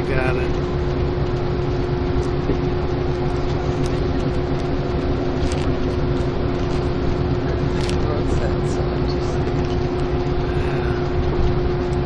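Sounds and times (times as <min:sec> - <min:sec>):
bus engine and road drone: 0:00.0 - 0:12.0
low hum: 0:00.0 - 0:12.0.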